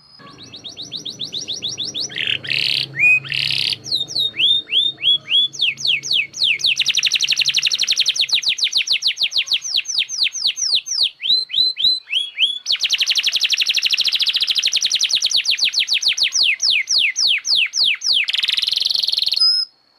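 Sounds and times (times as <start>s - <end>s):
canary singing rapid trills: 0.1s - 19.7s.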